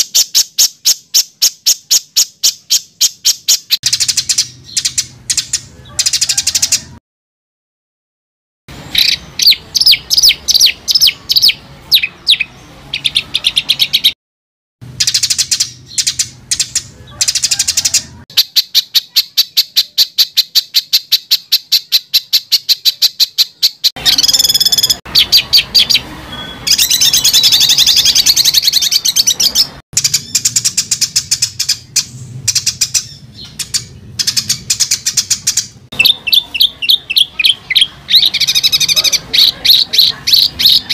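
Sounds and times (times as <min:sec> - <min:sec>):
songbird song with fast chips: 0:00.0 - 0:06.8, 0:08.9 - 0:14.2, 0:15.0 - 0:40.9.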